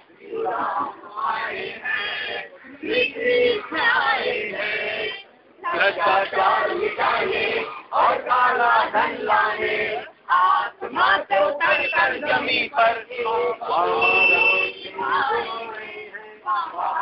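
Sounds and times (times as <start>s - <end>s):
group singing together: 0.0s - 17.0s.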